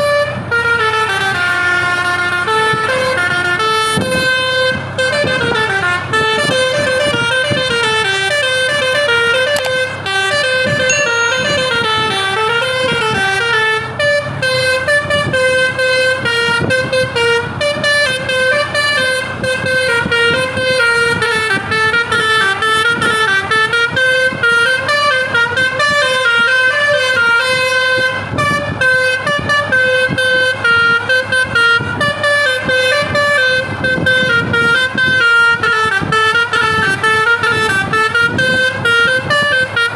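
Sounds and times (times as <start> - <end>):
multi-tone air horn melody: 0.0 - 39.9.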